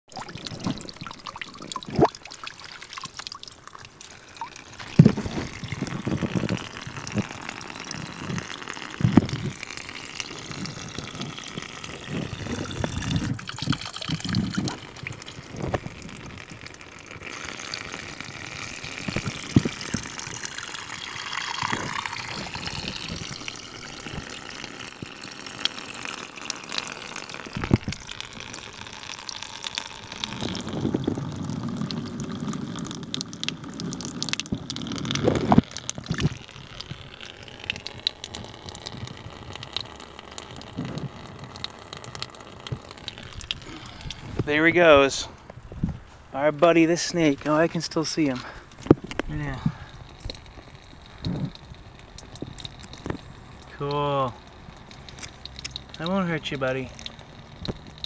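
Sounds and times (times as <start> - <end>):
water trickling in pond: 0.0 - 58.0.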